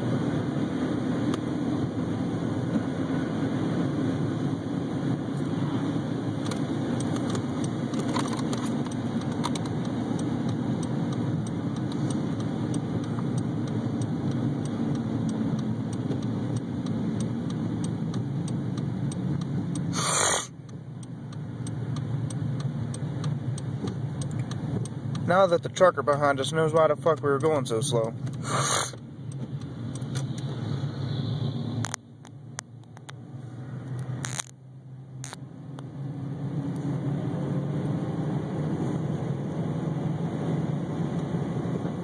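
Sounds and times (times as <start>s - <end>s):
vehicle road rumble: 0.0s - 42.0s.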